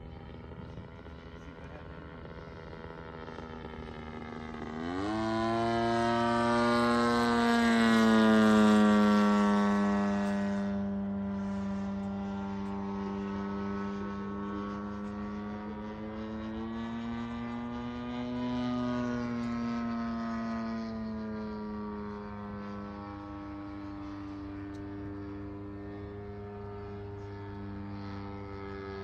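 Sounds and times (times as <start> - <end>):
model plane propeller engine: 0.0 - 29.0.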